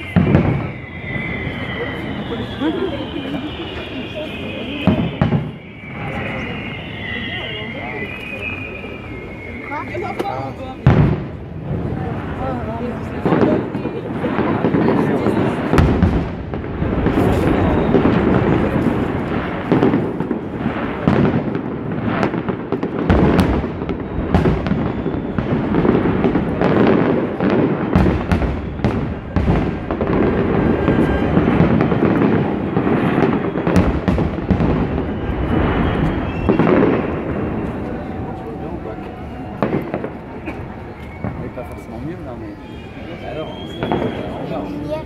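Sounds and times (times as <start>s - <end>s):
continuous rumbling din: 0.0s - 45.0s
fireworks bursting: 0.0s - 45.0s.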